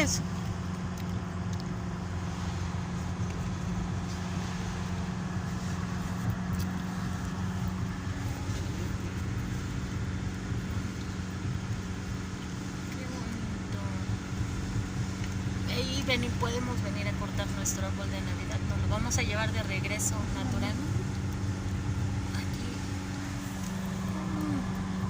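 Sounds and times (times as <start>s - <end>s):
car road noise: 0.0s - 25.0s.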